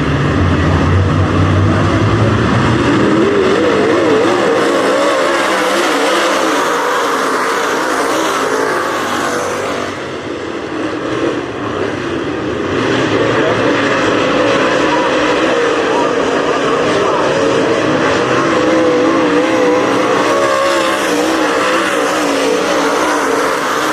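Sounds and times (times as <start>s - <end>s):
race car engines: 0.0s - 23.9s.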